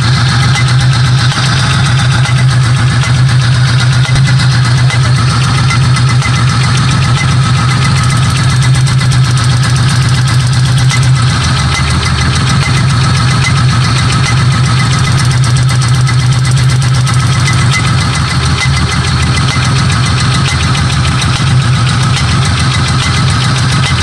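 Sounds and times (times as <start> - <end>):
car engine running: 0.0 - 24.0
rapid engine ticking: 0.0 - 24.0.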